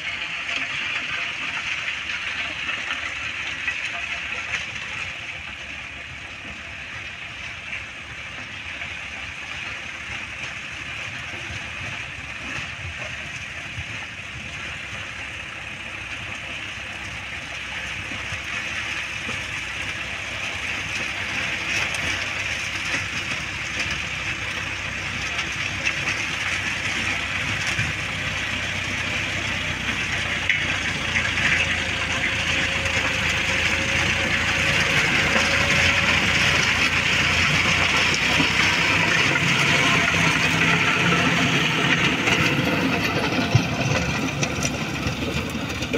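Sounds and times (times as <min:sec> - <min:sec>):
tines churning soil: 0:00.0 - 0:45.9
tractor diesel engine under load: 0:00.0 - 0:45.9.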